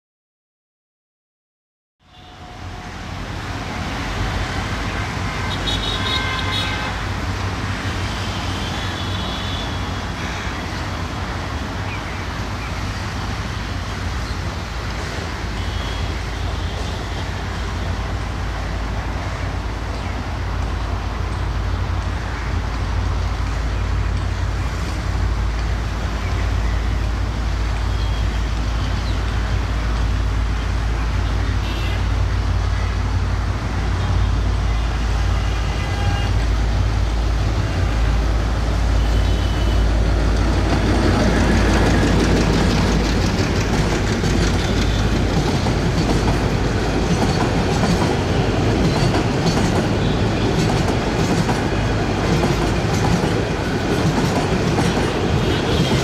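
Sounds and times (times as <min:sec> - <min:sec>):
diesel locomotive engine rumble: 0:02.0 - 0:56.0.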